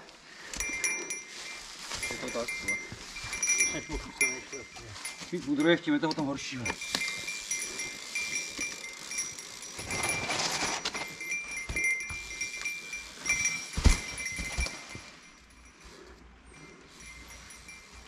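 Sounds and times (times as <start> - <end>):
tyre and trail rumble: 0.0 - 18.0.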